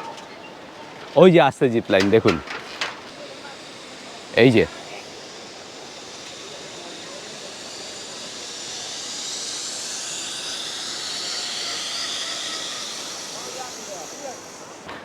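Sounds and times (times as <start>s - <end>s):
zip line trolley on cable: 0.0s - 15.0s.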